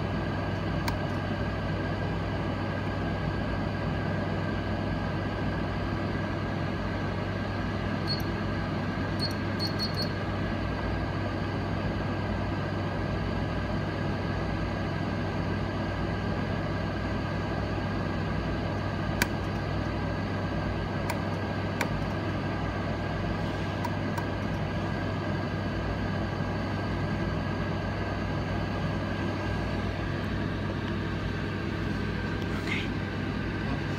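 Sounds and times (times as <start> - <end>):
mechanical hum: 0.0 - 33.9.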